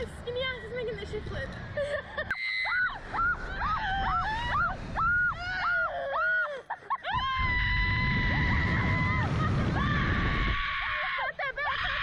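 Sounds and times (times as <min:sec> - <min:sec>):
women shrieking: 0:02.3 - 0:12.0.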